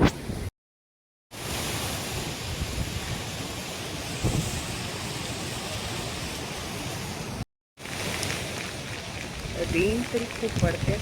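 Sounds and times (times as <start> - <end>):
heavy rain: 1.4 - 11.0
wind rumbling on microphone: 1.4 - 11.0.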